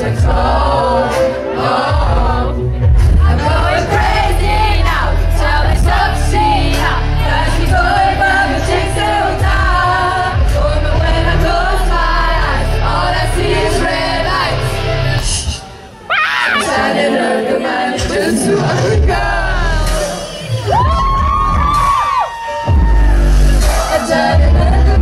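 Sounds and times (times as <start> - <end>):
pop backing track with bass beat: 0.0 - 15.7, 18.5 - 25.0
women singing into microphones: 0.0 - 21.8, 22.7 - 25.0.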